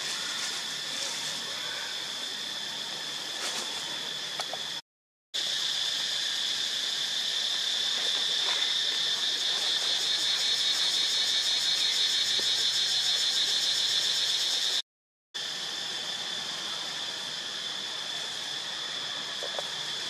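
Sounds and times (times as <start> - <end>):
high-pitched insect chorus trilling: 0.0 - 4.8, 5.4 - 14.8, 15.4 - 20.0.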